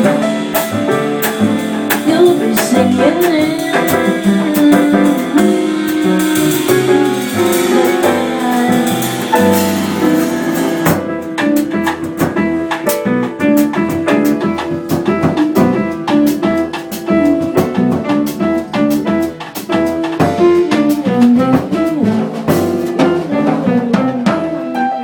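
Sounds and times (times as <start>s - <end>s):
double bass: 0.0s - 25.0s
drum kit: 0.0s - 25.0s
latin jazz band playing: 0.0s - 25.0s.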